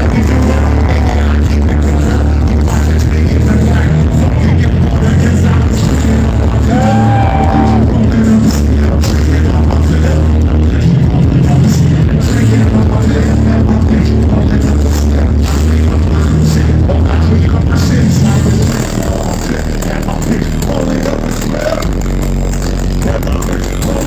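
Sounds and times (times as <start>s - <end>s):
heavy bass line: 0.0s - 24.0s
live rap music over a pa: 0.0s - 24.0s.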